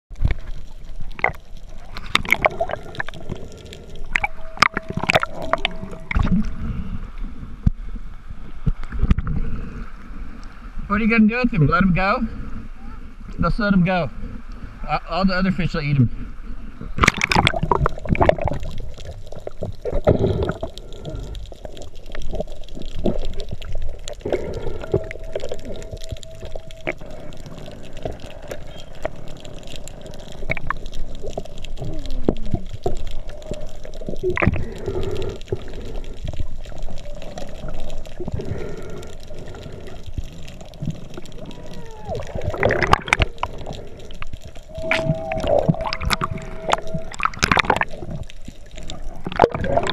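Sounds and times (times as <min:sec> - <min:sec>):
underwater gurgling and bubbling: 0:00.1 - 0:10.9, 0:15.5 - 0:49.9
faint steady hum: 0:00.2 - 0:49.9.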